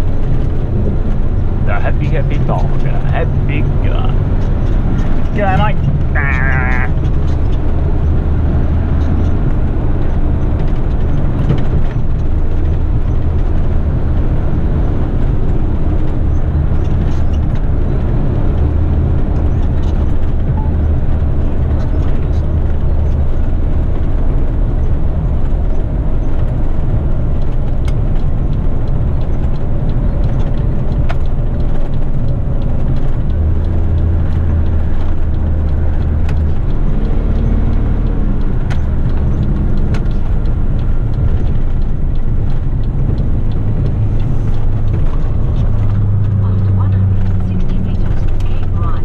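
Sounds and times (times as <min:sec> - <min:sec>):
truck diesel engine drone: 0:00.0 - 0:49.0.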